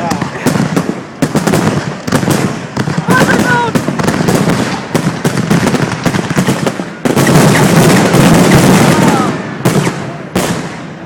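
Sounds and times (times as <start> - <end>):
fireworks crackling bursts: 0.0 - 11.0
fireworks sharp bangs: 0.0 - 11.0.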